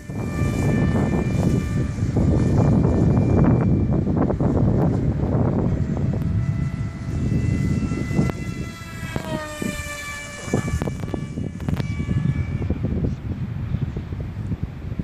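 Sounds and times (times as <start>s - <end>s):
model plane propeller whining: 0.0s - 15.0s
wind rumble on microphone: 0.0s - 15.0s.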